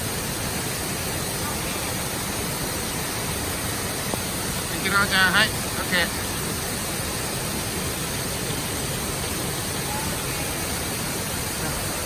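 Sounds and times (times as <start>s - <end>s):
waterfall rushing down rock: 0.0s - 12.0s.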